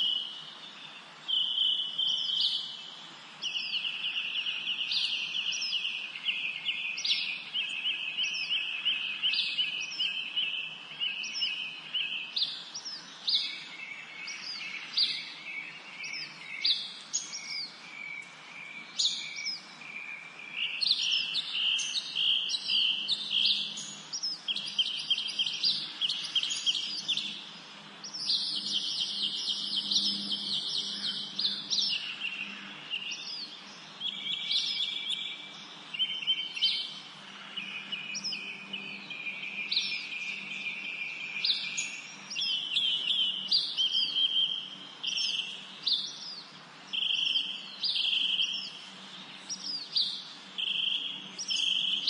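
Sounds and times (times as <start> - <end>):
songbirds trilling: 0.0 - 52.0.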